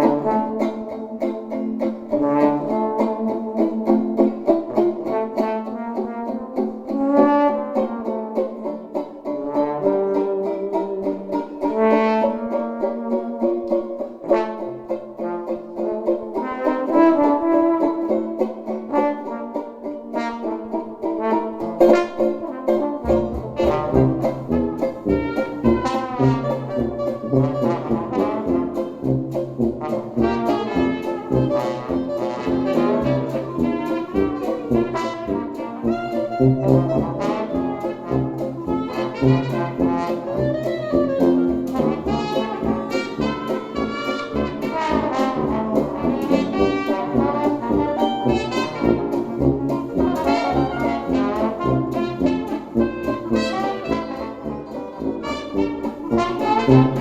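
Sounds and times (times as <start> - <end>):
jazz piece led by trombone: 0.0 - 1.2, 2.1 - 13.6, 14.2 - 57.0.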